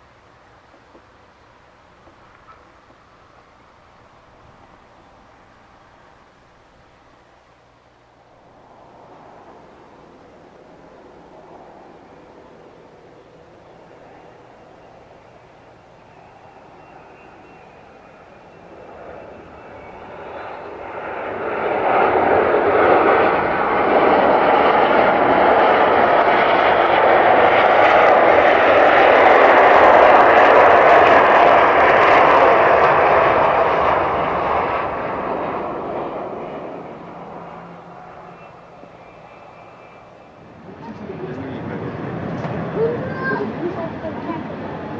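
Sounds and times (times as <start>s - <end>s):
jet engines roaring in reverse thrust: 0.0s - 44.9s.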